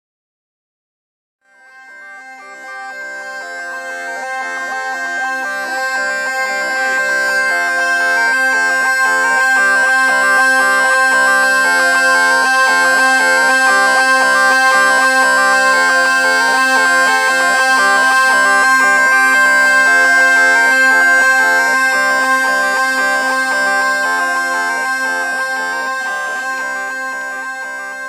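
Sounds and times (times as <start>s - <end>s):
bagpipe melody over drones: 1.5s - 28.0s.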